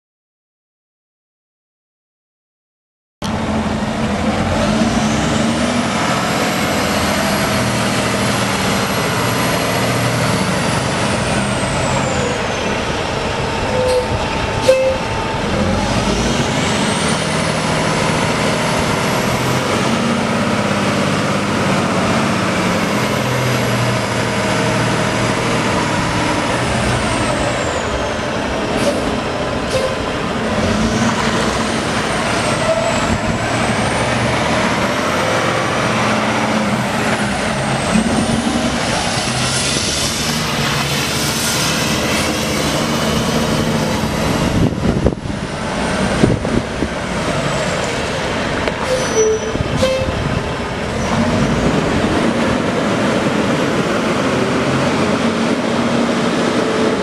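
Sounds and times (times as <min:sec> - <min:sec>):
truck diesel engine running: 0:03.2 - 0:57.0.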